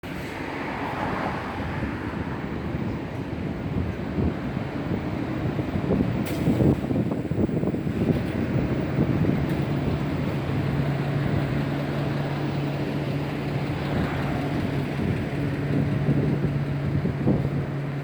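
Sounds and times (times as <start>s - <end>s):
wind noise rumble: 0.0s - 18.0s.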